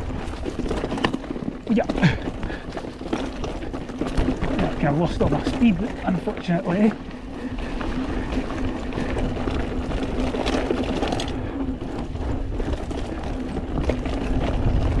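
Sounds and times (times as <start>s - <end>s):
bike tyres rattling over dirt: 0.0s - 15.0s
wind rumble on camera: 0.0s - 15.0s.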